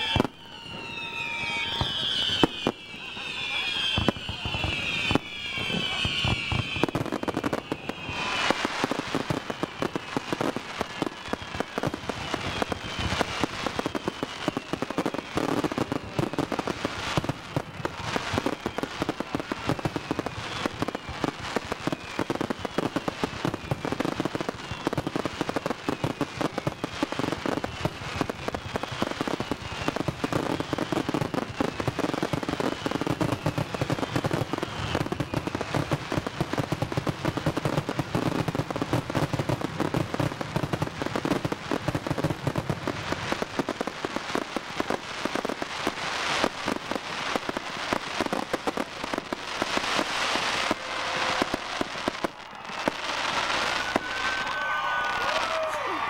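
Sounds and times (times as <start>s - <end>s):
falling firework whistles: 0.0s - 56.0s
fireworks bangs and crackling: 0.0s - 56.0s.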